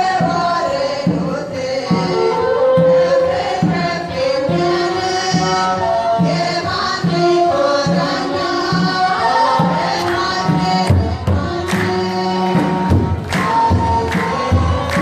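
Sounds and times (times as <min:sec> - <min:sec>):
choir singing chant-like melody: 0:00.0 - 0:15.0
drum beating steady pulse: 0:00.0 - 0:15.0.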